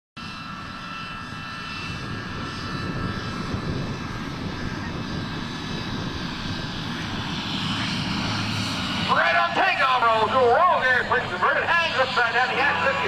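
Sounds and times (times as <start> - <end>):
plane engine and propeller: 0.2 - 13.0.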